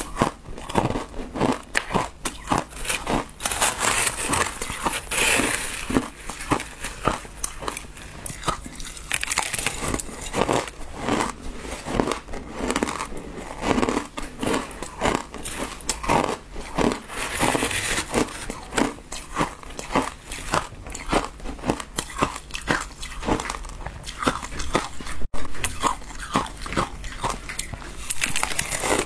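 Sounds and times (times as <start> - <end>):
crunching and chewing shaved ice: 0.0 - 29.0.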